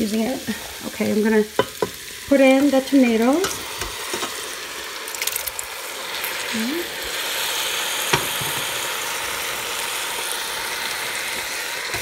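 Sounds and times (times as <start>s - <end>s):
meat and onions sizzling in a pot: 0.0s - 12.0s.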